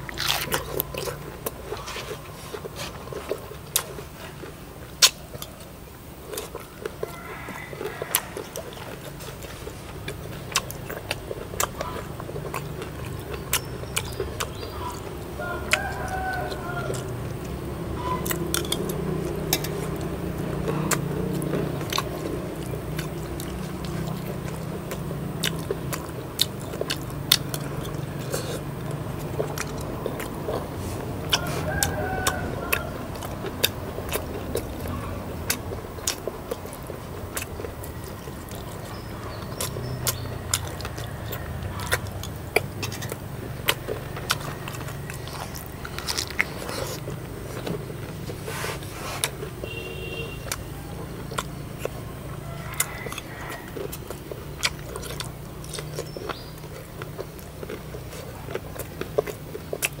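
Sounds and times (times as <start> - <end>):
person chewing and biting food: 0.0 - 60.0
steady low hum: 0.0 - 60.0.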